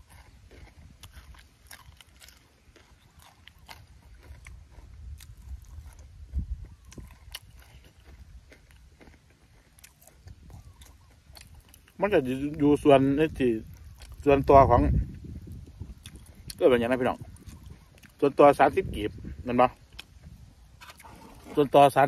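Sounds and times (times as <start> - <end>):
chewing food: 0.0 - 19.1, 19.8 - 21.8.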